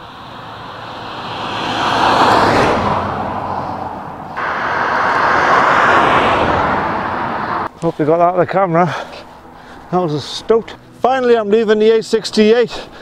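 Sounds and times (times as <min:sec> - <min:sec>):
vehicles passing close by: 0:00.0 - 0:12.1.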